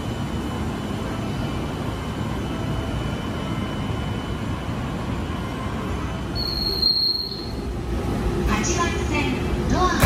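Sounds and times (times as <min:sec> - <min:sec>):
electric train rumble and hum: 0:00.0 - 0:10.0.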